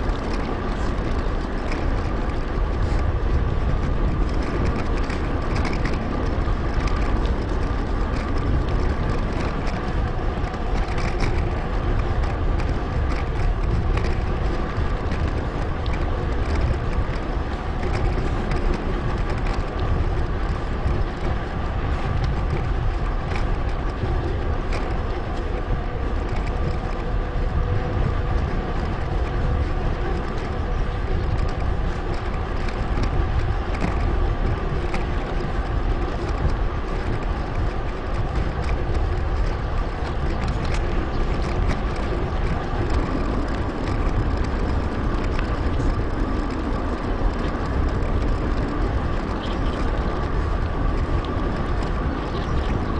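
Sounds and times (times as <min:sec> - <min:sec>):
wind rushing over microphone: 0:00.0 - 0:52.9.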